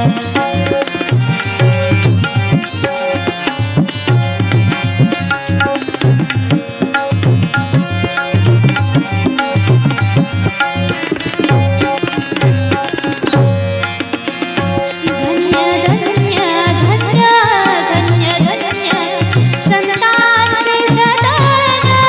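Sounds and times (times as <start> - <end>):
tabla drum strokes: 0.0 - 22.0.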